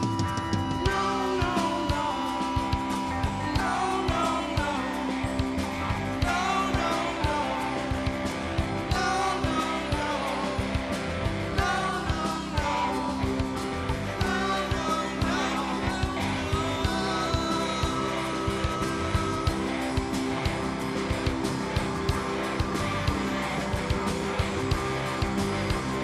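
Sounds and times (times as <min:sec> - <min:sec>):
bass guitar: 0:00.0 - 0:26.0
drum kit beat: 0:00.0 - 0:26.0
electric guitar: 0:00.0 - 0:26.0.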